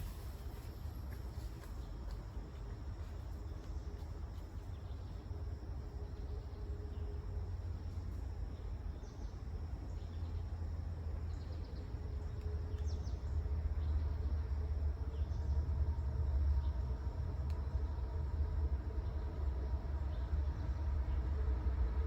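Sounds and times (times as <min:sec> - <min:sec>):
diesel locomotive rumble: 0:00.0 - 0:22.0.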